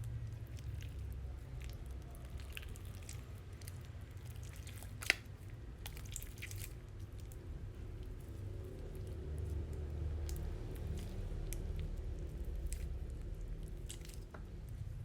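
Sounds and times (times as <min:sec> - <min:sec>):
slime squished by hand: 0:00.1 - 0:15.0
sticky clicks and wet pops: 0:00.6 - 0:07.4, 0:09.0 - 0:14.8.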